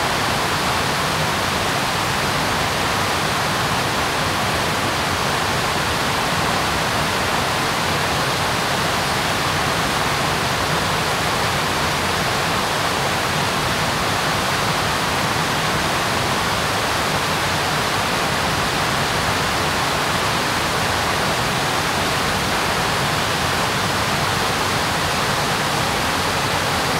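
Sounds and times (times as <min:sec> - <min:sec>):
river rapids rushing: 0:00.0 - 0:26.9.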